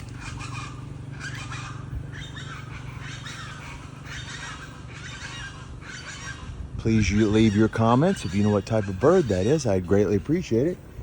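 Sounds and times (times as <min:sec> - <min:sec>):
birds chattering: 0:00.0 - 0:11.0
steady low hum: 0:00.0 - 0:11.0.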